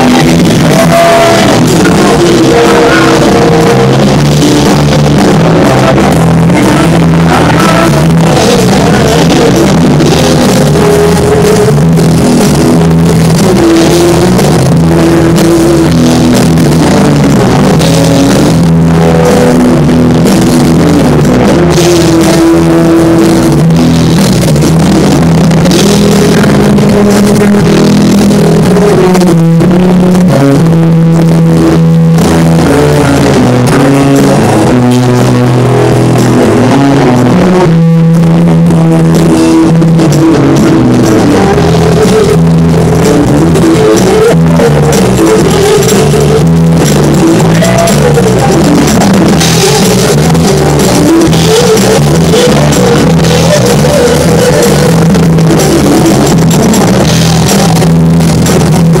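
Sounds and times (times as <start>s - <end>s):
drums: 0.0s - 59.0s
electric guitars playing melody: 0.0s - 59.0s.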